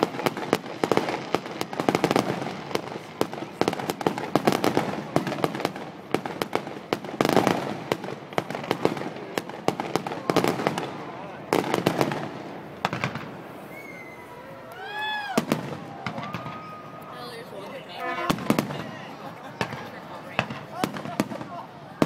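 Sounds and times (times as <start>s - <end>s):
fireworks bangs and crackling: 0.0s - 14.4s, 15.0s - 22.0s.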